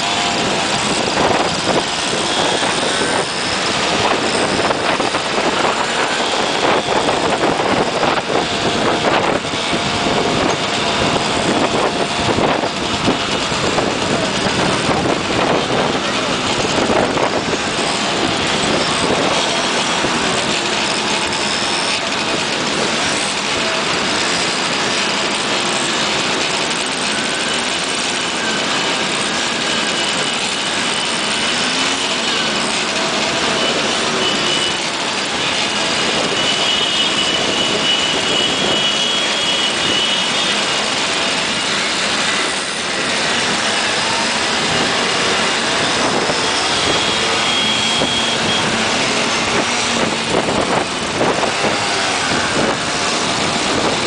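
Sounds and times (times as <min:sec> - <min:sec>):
drone of many small engines: 0:00.0 - 0:54.0
moped engine whines: 0:00.0 - 0:54.0.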